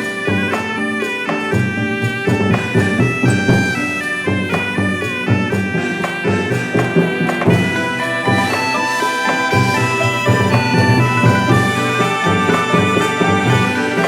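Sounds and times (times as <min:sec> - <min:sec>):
drum and percussion strokes: 0:00.0 - 0:14.0
reed wind instrument melody: 0:00.0 - 0:14.0.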